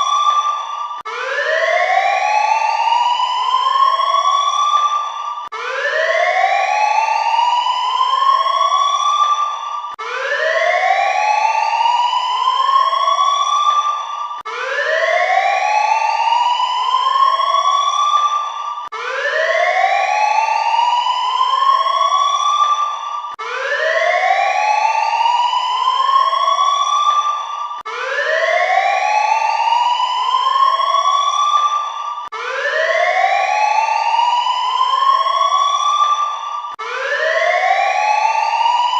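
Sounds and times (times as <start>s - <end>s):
warning siren whooping: 0.0s - 38.9s.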